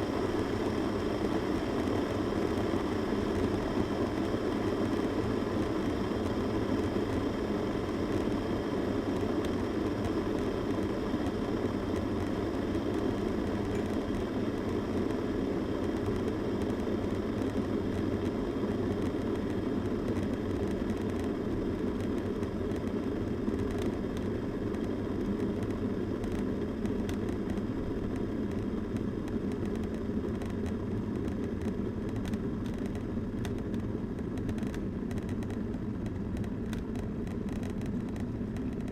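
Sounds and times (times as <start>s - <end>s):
electric kettle boiling water: 0.0s - 38.9s.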